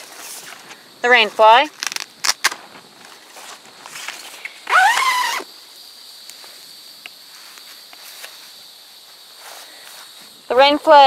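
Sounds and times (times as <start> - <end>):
insect drone: 0.0 - 11.0
rising insect call: 0.0 - 11.0.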